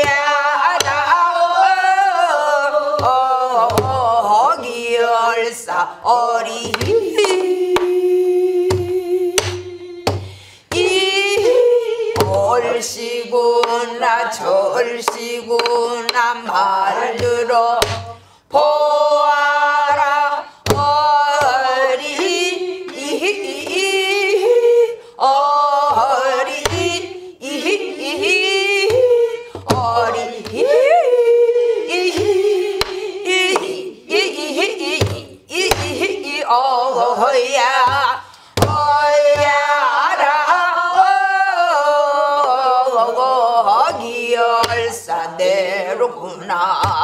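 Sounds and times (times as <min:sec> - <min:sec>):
woman singing folk song: 0:00.0 - 0:47.0.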